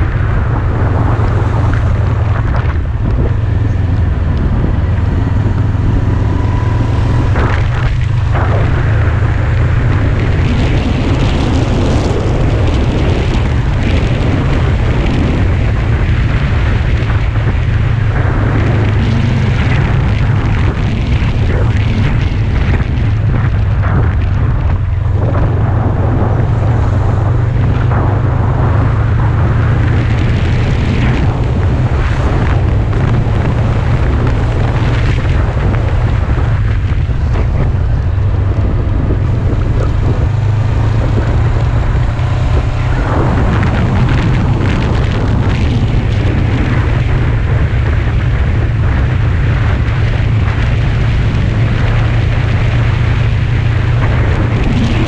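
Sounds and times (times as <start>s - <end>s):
motorcycle engine cruising: 0.0s - 55.0s
wind buffeting microphone: 0.0s - 55.0s.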